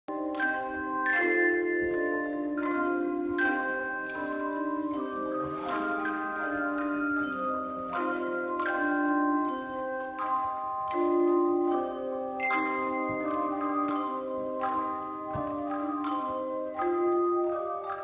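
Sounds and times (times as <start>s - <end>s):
church bells ringing: 0.1s - 18.0s.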